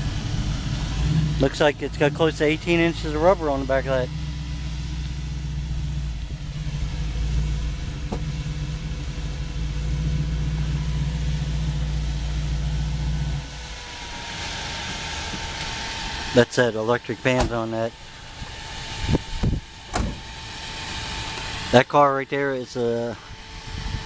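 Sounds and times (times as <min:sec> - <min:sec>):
car engine idling: 0:00.0 - 0:24.0
electric cooling fans whirring: 0:00.0 - 0:24.0.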